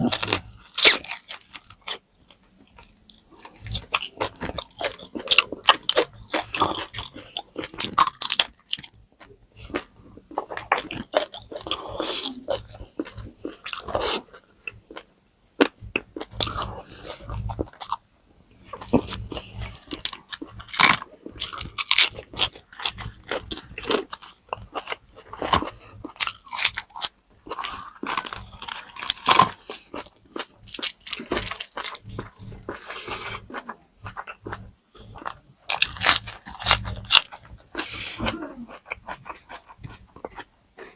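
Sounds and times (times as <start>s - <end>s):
crunchy chewing of crispy skin: 0.0s - 40.9s.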